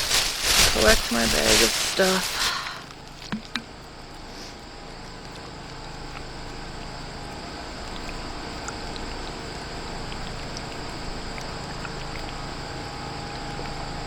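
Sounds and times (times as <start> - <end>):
low hum with high buzz: 0.0 - 14.0.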